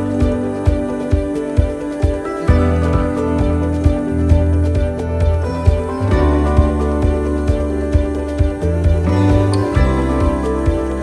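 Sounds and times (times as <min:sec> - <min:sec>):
music with sustained chords: 0:00.0 - 0:11.0.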